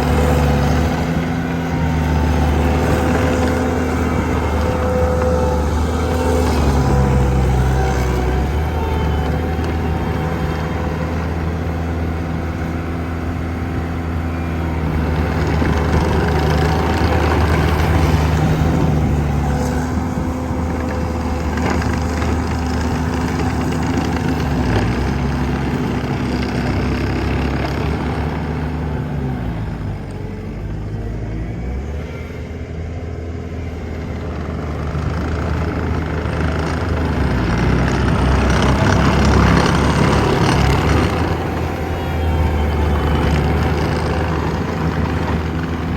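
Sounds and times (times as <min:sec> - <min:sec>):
diesel engine working: 0:00.0 - 0:45.9.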